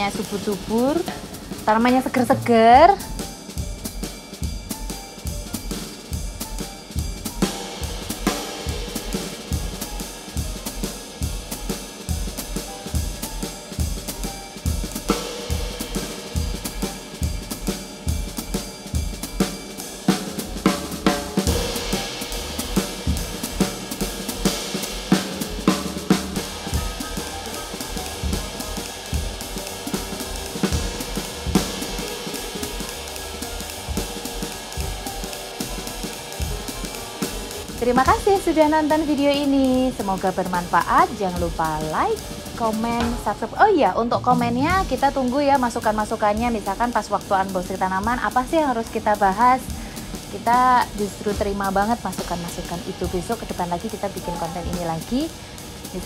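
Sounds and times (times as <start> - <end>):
drum kit beat: 0.0 - 56.0.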